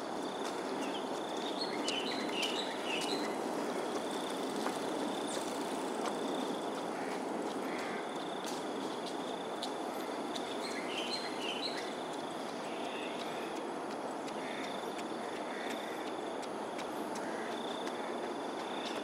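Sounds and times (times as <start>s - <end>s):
low rush of background noise: 0.0s - 19.0s.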